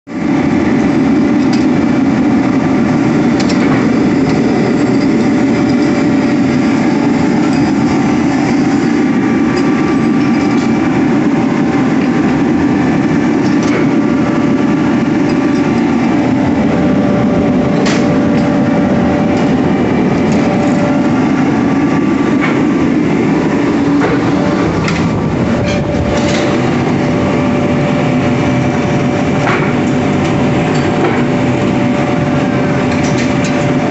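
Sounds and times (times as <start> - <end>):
machinery drone: 0.1 - 33.9.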